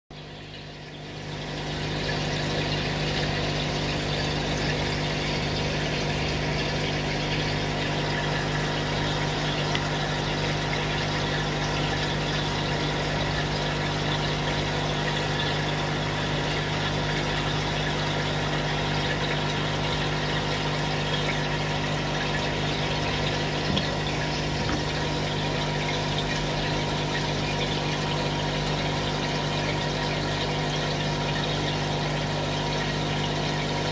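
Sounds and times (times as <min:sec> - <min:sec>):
machine hum: 0:00.2 - 0:33.9.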